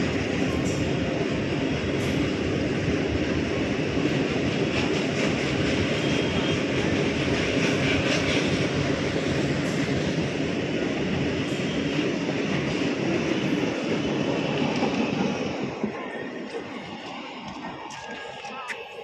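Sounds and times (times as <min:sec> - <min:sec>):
train wagons rumbling and rattling: 0:00.0 - 0:19.0.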